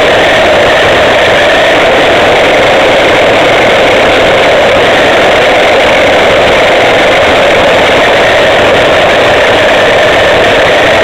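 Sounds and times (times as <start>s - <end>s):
toy car motor and wheels rumbling: 0.0s - 11.0s.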